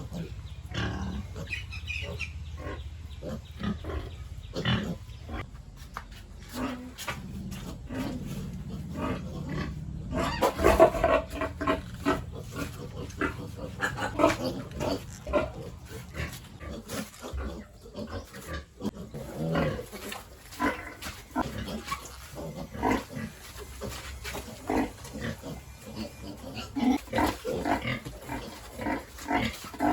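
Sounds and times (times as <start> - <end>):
pigs grunting: 0.0 - 5.5, 6.5 - 29.9.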